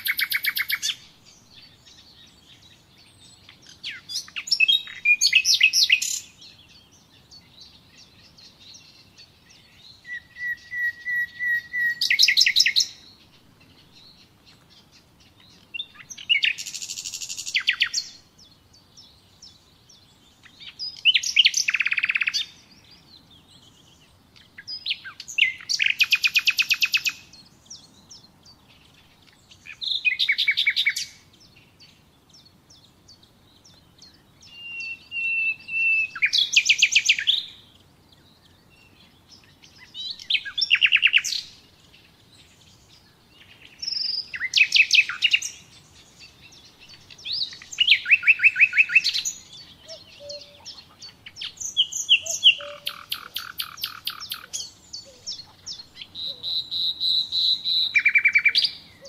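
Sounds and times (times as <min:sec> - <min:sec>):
nightingale singing trills: 0:00.0 - 0:59.0.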